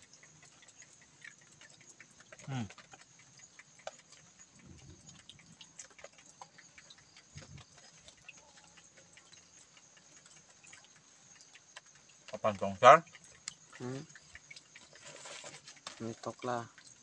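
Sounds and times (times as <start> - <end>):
faint small clicks and ticks: 0.0 - 17.0.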